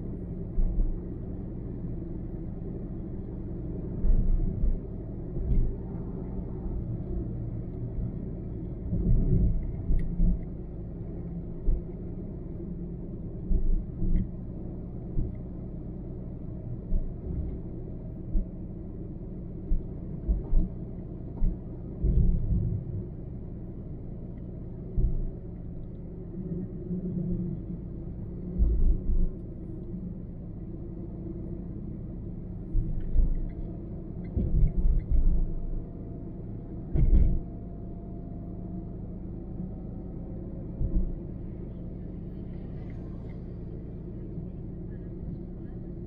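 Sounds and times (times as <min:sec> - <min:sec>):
car road rumble: 0:00.0 - 0:46.0.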